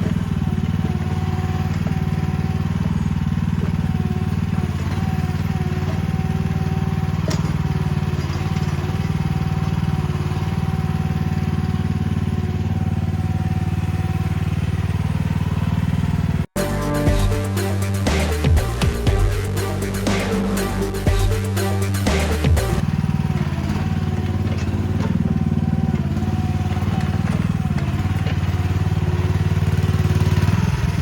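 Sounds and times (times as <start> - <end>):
small excavator engine running: 0.0 - 31.0.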